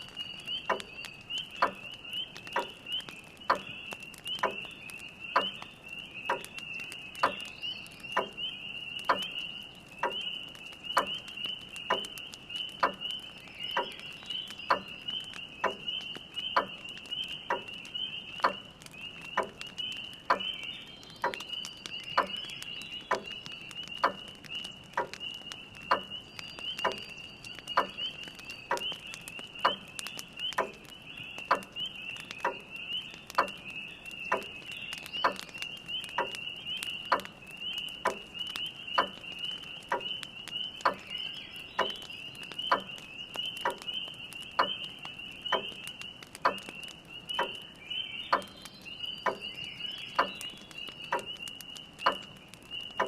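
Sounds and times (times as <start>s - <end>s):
frogs peeping: 0.0s - 53.0s
log fire crackling: 0.0s - 53.0s.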